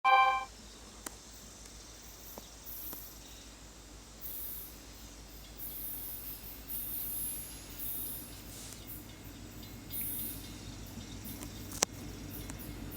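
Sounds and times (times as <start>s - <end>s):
insects chirping: 1.3s - 12.9s.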